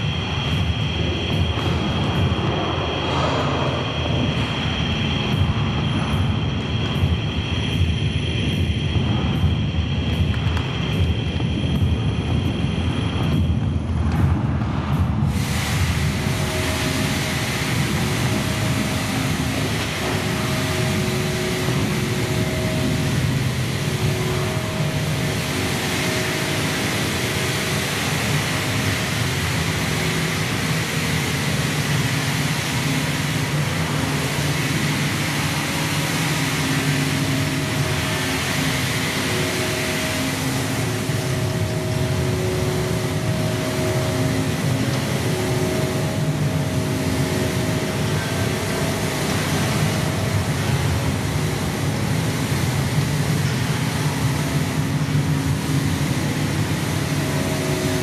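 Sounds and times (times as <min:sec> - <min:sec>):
electronic drone music: 0:00.0 - 0:58.0.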